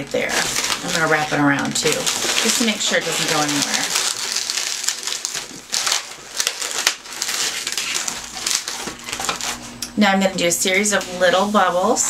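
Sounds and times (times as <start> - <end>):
balloons rubbing and scraping: 0.0 - 9.7.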